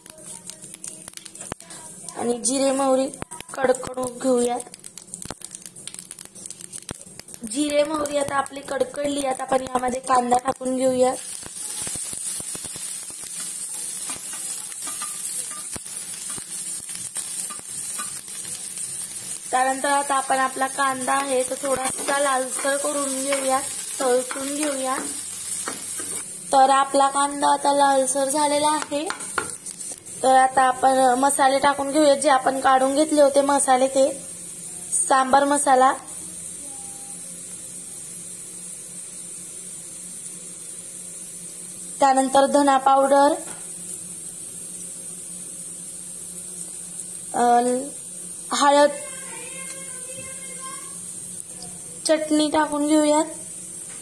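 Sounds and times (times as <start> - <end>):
onion sizzling in hot oil: 0.0 - 54.0.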